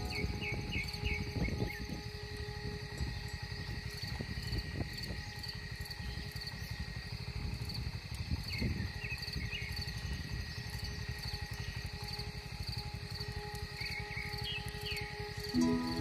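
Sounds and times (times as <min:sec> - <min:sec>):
constant low rumble: 0:00.0 - 0:16.0
insects chirping: 0:00.0 - 0:16.0.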